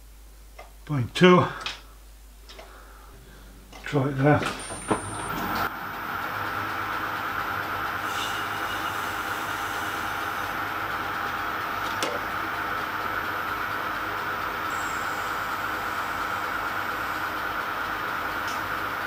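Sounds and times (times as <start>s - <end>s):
metal lathe running: 3.2s - 19.0s.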